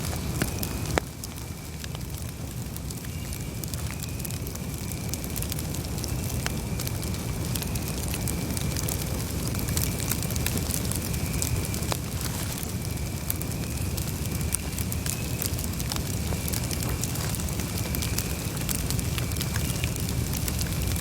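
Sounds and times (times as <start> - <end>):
burning wood crackling: 0.0 - 21.0
low rumble of flames: 0.0 - 21.0.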